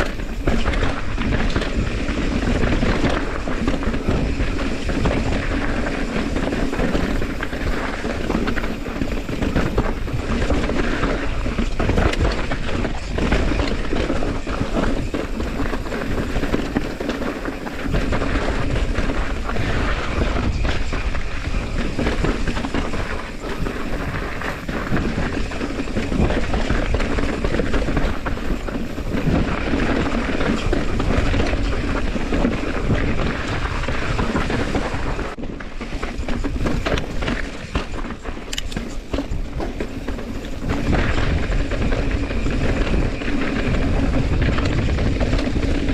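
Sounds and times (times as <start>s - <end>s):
bike knocking over bumps: 0.0s - 45.9s
tyres rattling over rock and gravel: 0.0s - 45.9s.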